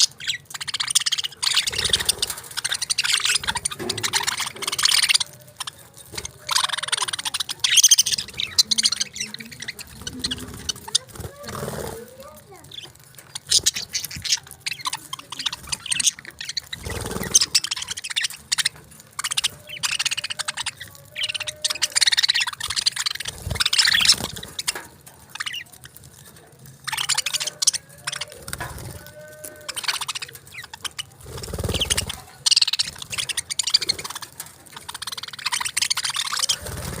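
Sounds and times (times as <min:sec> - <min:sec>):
budgerigars chattering: 0:00.0 - 0:37.0.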